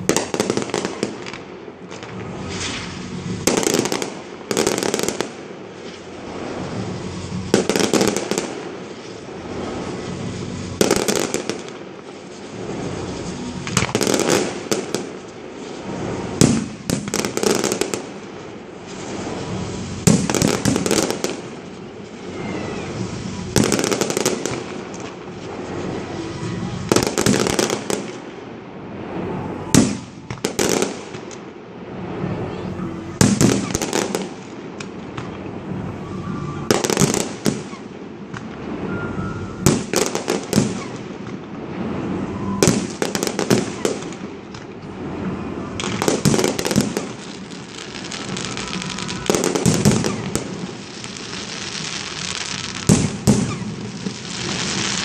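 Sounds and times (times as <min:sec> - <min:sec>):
steady background noise: 0:00.0 - 0:55.0.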